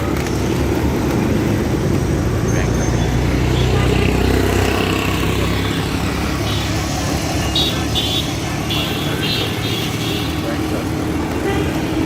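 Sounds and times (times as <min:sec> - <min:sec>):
road traffic noise: 0:00.0 - 0:12.0
vehicle engine rumbling: 0:00.0 - 0:12.0.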